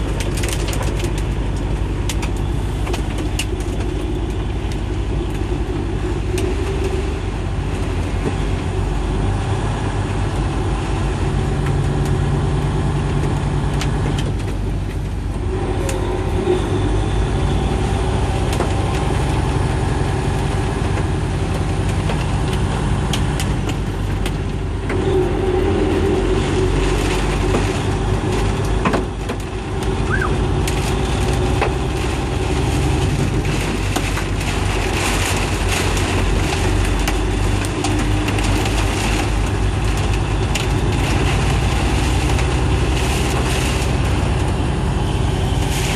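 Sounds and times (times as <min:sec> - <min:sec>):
car engine and tyre drone: 0:00.0 - 0:45.9
rain ticking on windshield: 0:00.0 - 0:45.9.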